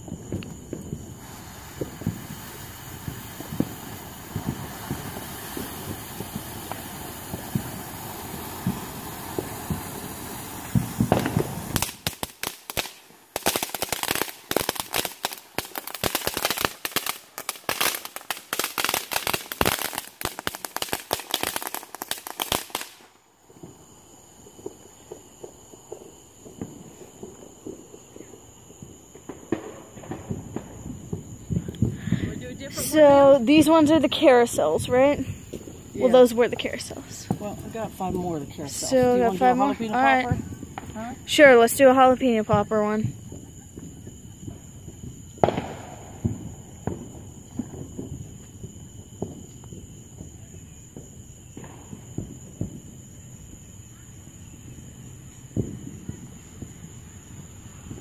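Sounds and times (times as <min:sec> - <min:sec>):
distant fireworks thudding and popping: 0:00.0 - 0:58.0
steady hiss: 0:00.0 - 0:58.0.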